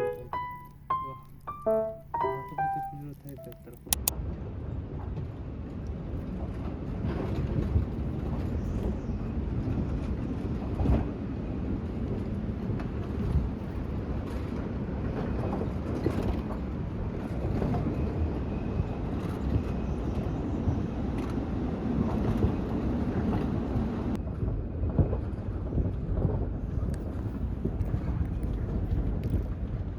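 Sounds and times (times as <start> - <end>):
wind rumble on microphone: 4.1 - 29.9.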